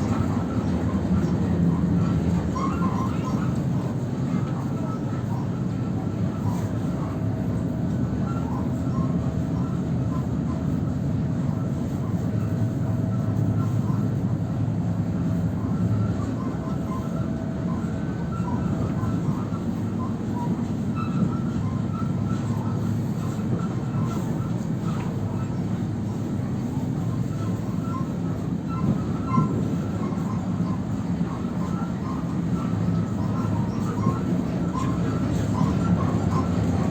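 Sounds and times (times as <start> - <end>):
electric train running rumble: 0.0 - 36.9
train car squeaks and creaks: 0.0 - 36.9.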